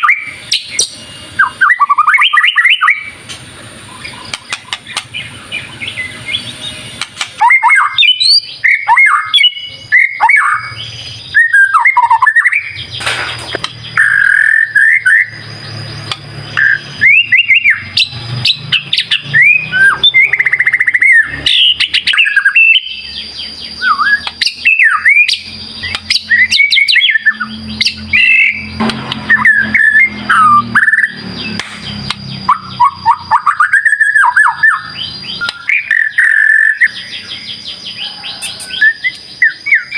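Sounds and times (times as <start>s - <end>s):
bird singing whistled phrases: 0.0s - 3.2s, 3.9s - 39.9s
thin high whine: 0.0s - 37.4s.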